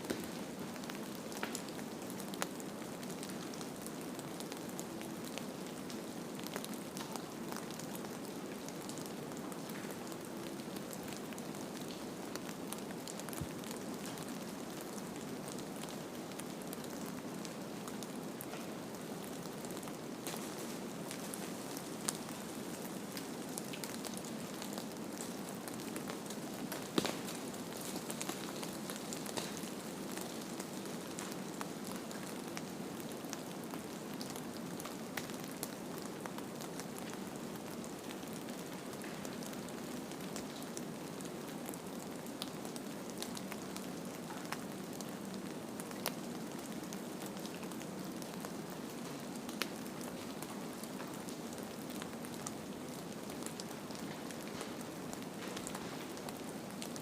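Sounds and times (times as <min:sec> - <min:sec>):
light ticks and crackles: 0:00.1 - 0:57.0.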